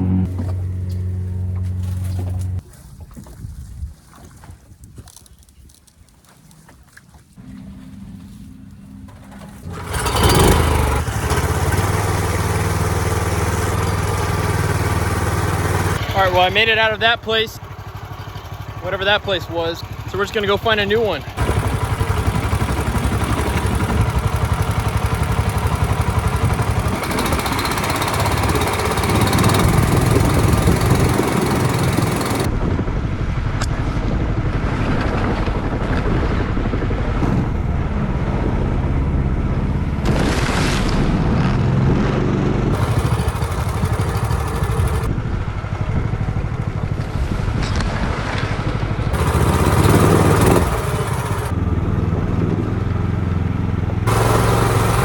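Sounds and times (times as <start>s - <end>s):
boat motor running: 0.0s - 2.7s, 7.4s - 32.7s, 34.2s - 55.0s.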